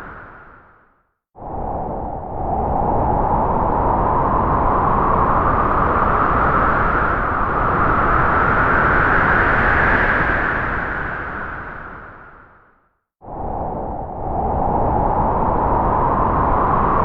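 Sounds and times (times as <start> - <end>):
strong gust of wind: 1.4 - 11.8, 13.2 - 17.0.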